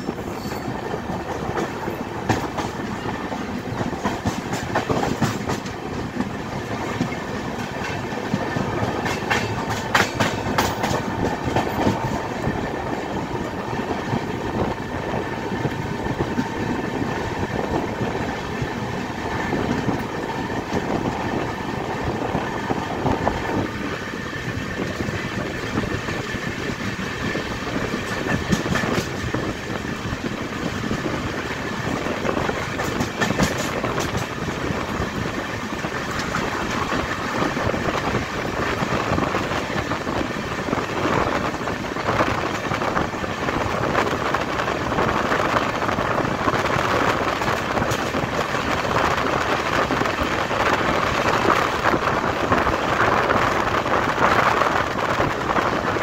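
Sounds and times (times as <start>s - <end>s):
passenger train rumbling: 0.0s - 56.0s.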